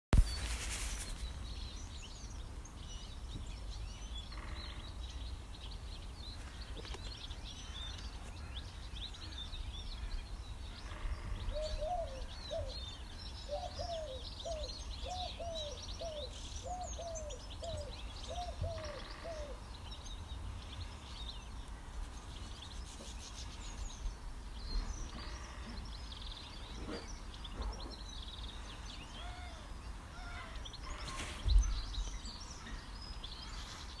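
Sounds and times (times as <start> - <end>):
birds chirping and singing: 0.2 - 34.0
repeated low arched bird calls: 0.2 - 34.0.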